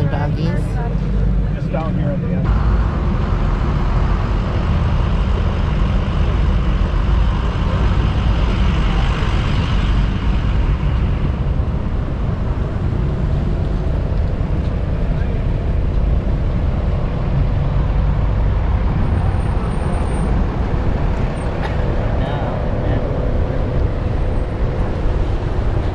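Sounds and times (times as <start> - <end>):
road noise: 0.0 - 25.9
vehicle engine rumble: 0.0 - 25.9.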